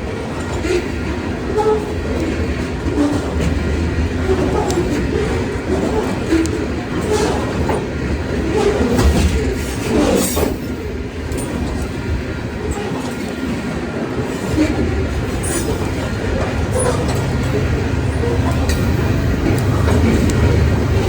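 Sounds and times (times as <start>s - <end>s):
train wheels clacking over rail joints: 0.0s - 21.0s.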